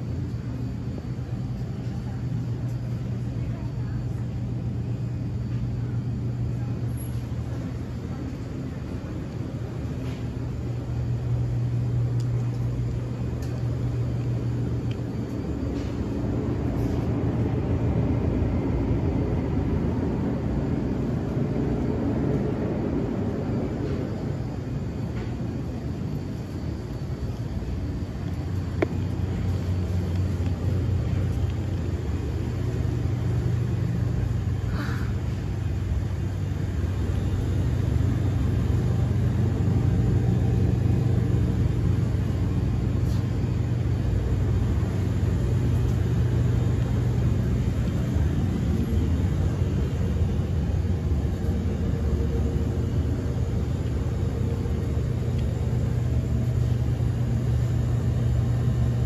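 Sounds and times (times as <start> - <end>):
refrigeration machinery humming: 0.0 - 59.0.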